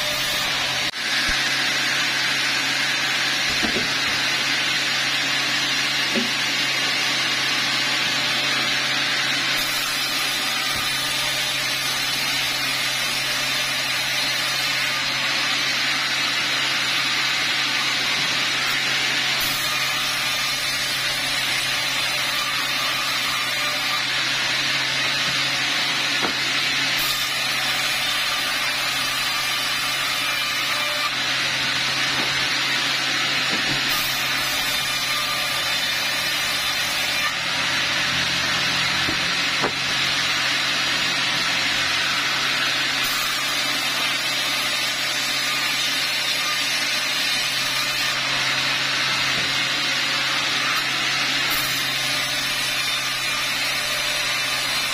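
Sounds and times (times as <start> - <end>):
band saw cutting logs: 0.0 - 54.9.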